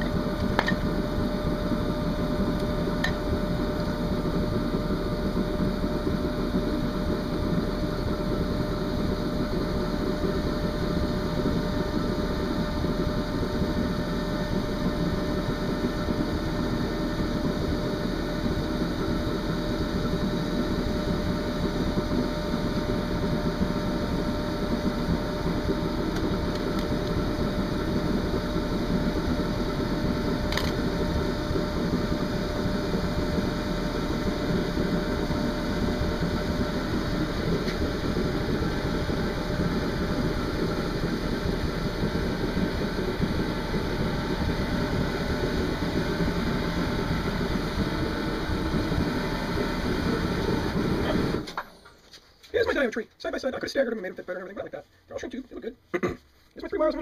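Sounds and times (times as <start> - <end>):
electric motor and fan whirring: 0.0 - 55.7.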